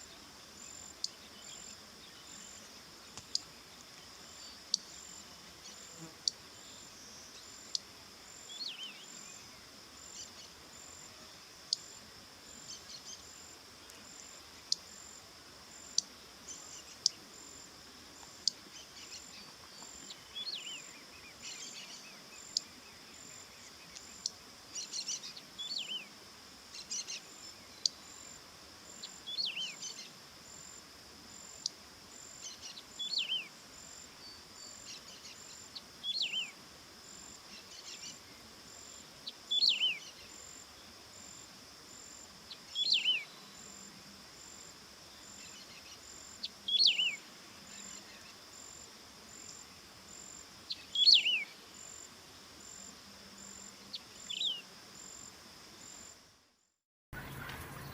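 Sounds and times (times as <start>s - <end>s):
pulsing insect chirps: 0.0s - 56.4s
high insect drone: 0.0s - 57.9s.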